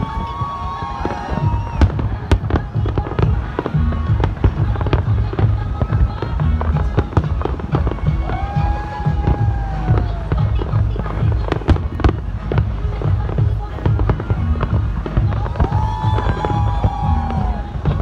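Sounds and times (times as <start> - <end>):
fireworks bangs and crackling: 0.0 - 18.0
low rumble of explosions: 0.0 - 18.0.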